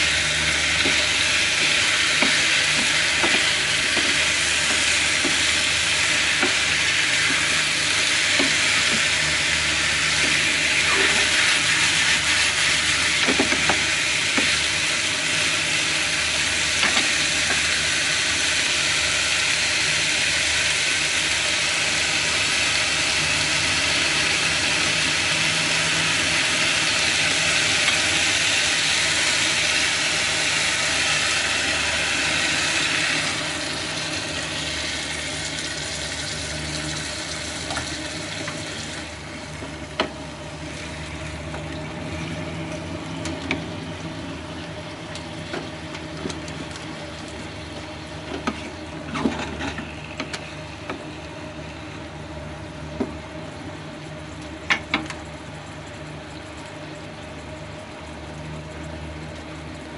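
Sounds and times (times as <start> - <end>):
food sizzling in a pan: 0.0 - 55.4.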